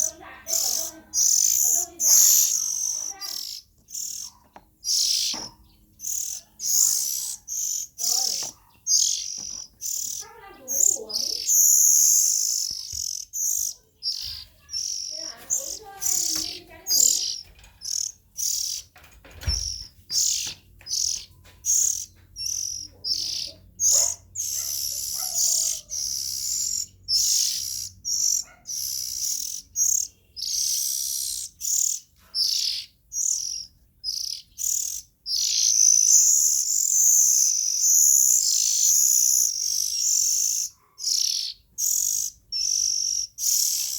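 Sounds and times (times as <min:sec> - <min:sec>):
bird chirping and calling: 0:00.0 - 0:43.9.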